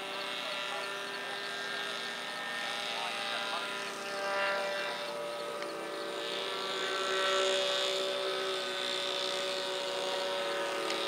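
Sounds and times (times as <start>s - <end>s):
model airplane motor droning: 0.0s - 11.0s.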